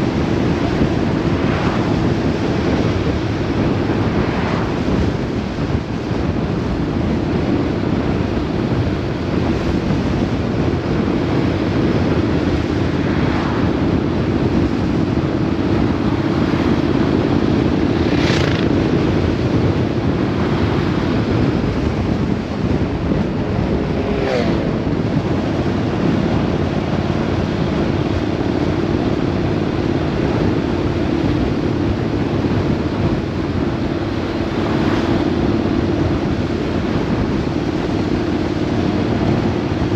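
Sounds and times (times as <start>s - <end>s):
vehicle engine hum: 0.0s - 39.9s
wind noise on microphone: 0.0s - 39.9s.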